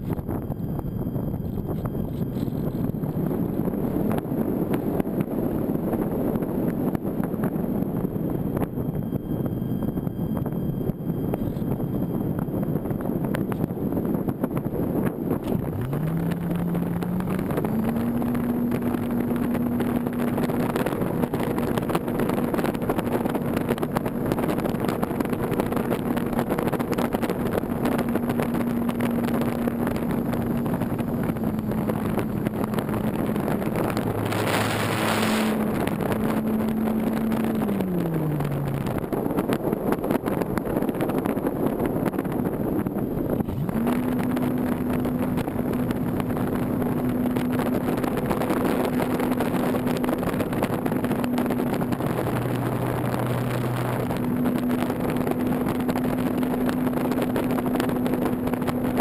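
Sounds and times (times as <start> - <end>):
electric motor and propeller humming: 0.0 - 59.0
wind rushing: 0.0 - 59.0.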